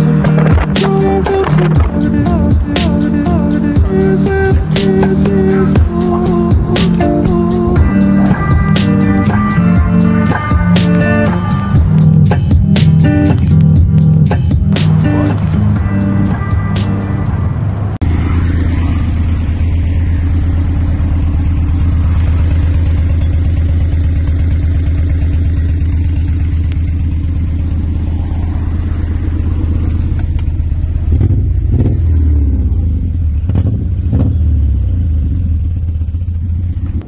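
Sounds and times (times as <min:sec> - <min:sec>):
car engine low drone: 0:00.0 - 0:37.0.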